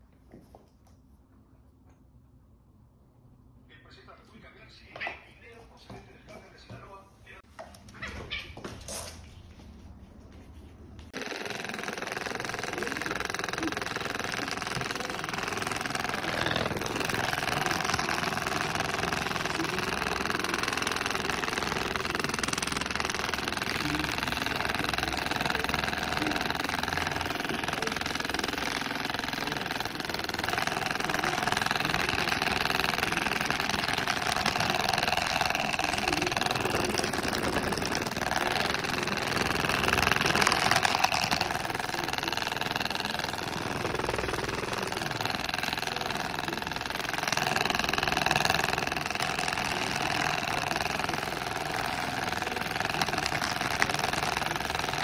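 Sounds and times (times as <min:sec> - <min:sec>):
massage gun motor hum: 0:10.5 - 0:55.0.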